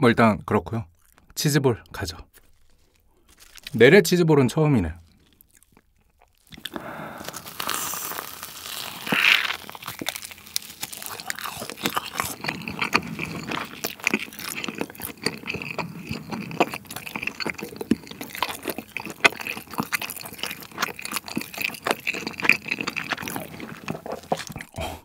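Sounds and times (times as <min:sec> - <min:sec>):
wet chewing mouth sounds: 0:00.9 - 0:03.8, 0:05.0 - 0:25.0.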